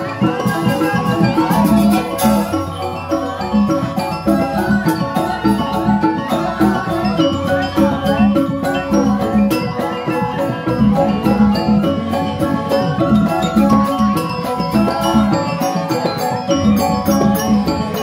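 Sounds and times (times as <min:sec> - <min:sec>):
drum strokes: 0:00.0 - 0:18.0
gamelan keyed percussion: 0:00.0 - 0:18.0.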